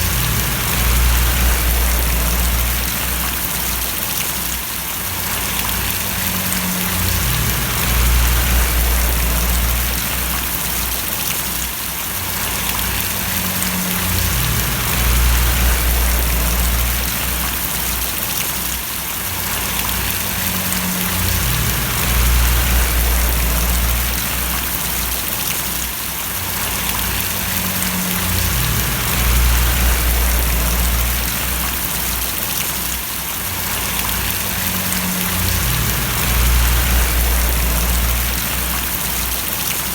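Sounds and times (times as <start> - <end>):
low rumble: 0.0 - 3.8, 5.4 - 11.2, 12.4 - 17.9, 19.8 - 25.4, 26.6 - 32.2, 33.8 - 39.6
rain splashing on surfaces: 0.0 - 39.9.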